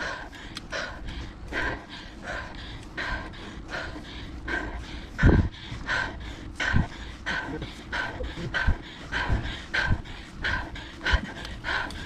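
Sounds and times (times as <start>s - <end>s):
person panting hard: 0.0s - 12.0s.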